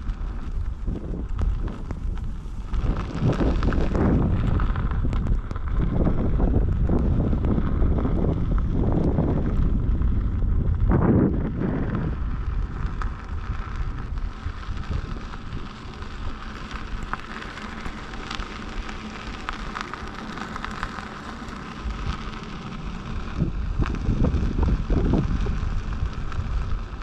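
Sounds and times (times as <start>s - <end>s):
tyre crackling over dirt: 0.0s - 27.0s
wind buffeting microphone: 0.0s - 27.0s.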